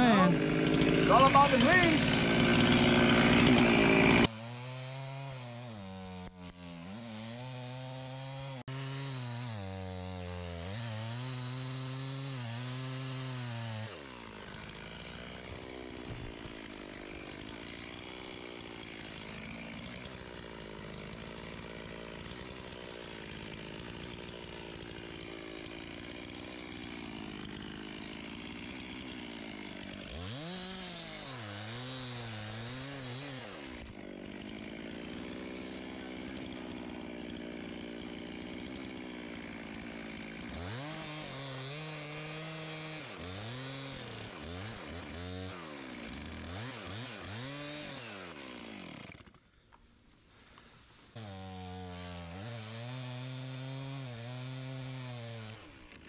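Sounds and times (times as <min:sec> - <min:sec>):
chainsaw engine revving: 0:00.0 - 0:49.7, 0:50.4 - 0:56.0.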